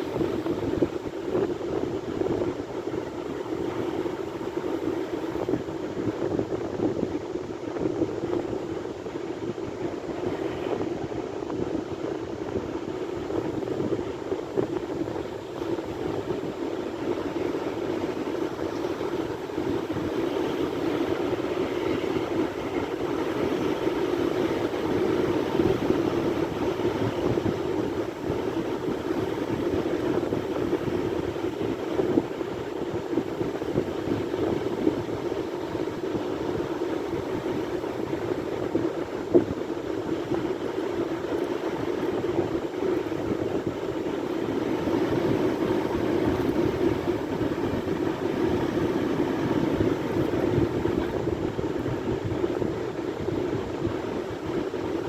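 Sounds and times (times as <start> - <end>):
waves roaring: 8.6 - 55.0.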